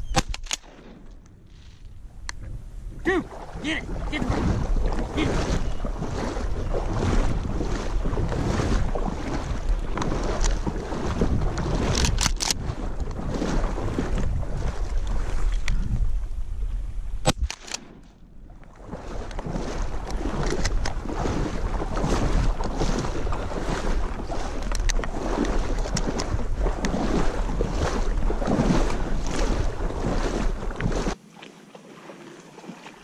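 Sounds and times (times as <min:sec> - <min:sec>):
wind buffeting microphone: 0:00.0 - 0:31.2
water sloshing around legs: 0:03.1 - 0:15.8, 0:18.4 - 0:33.0.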